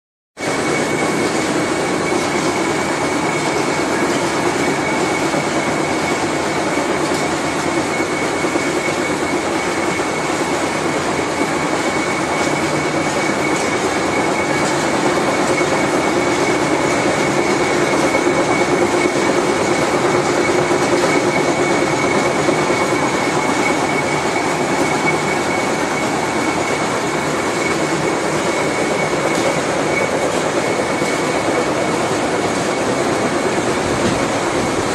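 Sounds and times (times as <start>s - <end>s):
machine running with high whine: 0.4s - 34.9s.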